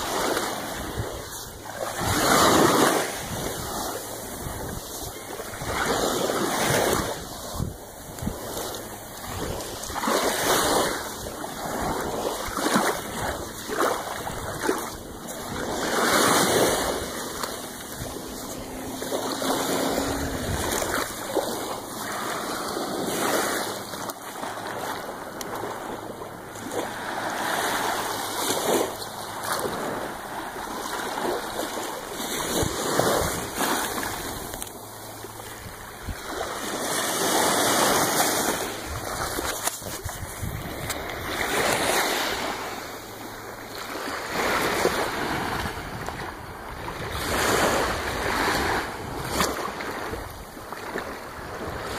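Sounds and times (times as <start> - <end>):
waves washing over sandy beach: 0.0 - 51.9.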